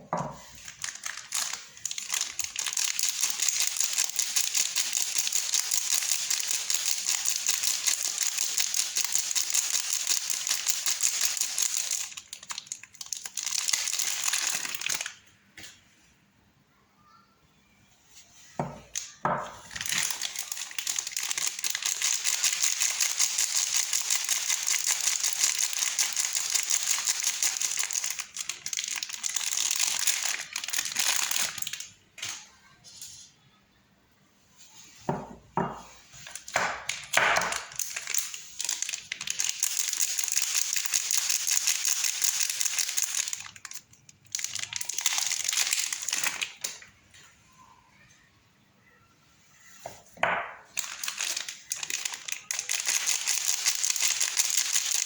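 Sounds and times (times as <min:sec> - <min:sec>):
soap packaging crinkling: 0:00.3 - 0:15.2, 0:18.8 - 0:32.4, 0:35.2 - 0:47.0, 0:50.2 - 0:55.0.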